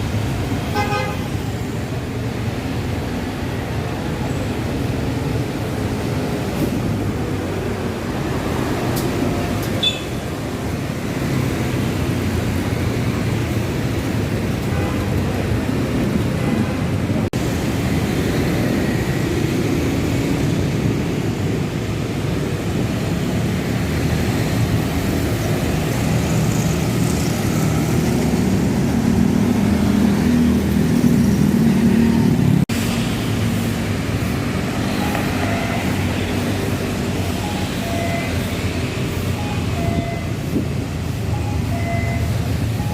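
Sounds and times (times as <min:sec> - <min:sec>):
bus engines running: 0:00.0 - 0:42.9
road noise: 0:00.0 - 0:42.9.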